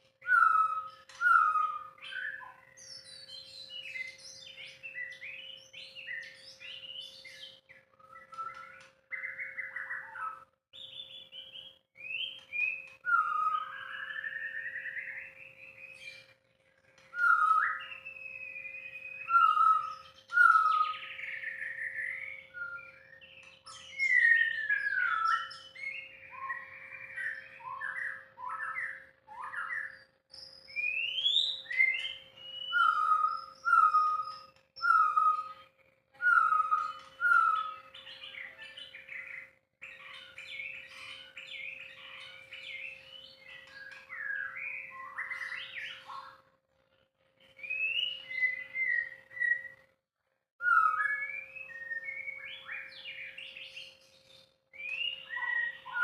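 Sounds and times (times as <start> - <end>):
bird singing whistled phrases: 0.2 - 16.4, 17.0 - 46.5, 47.4 - 49.9, 50.6 - 56.0.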